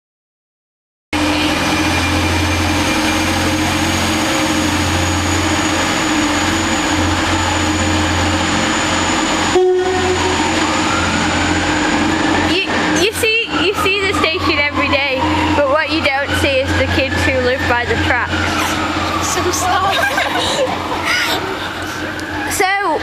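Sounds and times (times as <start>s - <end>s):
train running drone: 1.2s - 23.0s.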